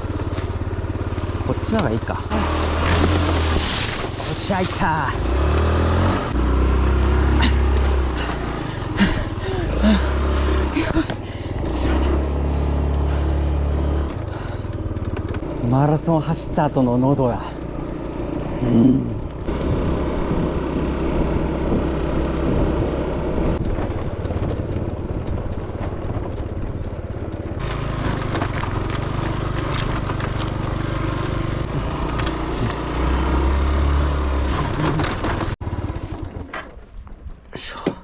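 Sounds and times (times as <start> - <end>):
small engine running: 0.0 - 36.8.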